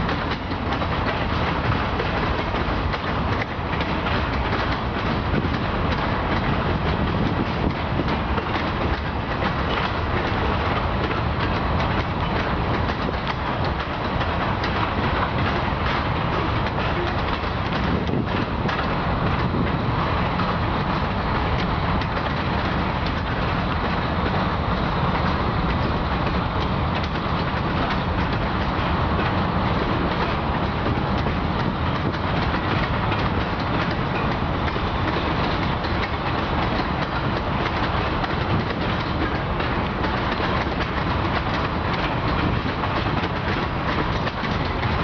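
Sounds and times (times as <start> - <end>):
train wheels rumbling on rail: 0.0 - 45.0
wheels clacking over rail joints: 0.0 - 45.0.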